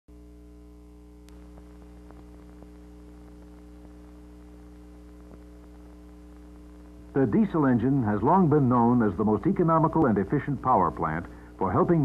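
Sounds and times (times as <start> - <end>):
background hiss: 0.1 - 12.0
faint electrical hum: 0.1 - 12.0.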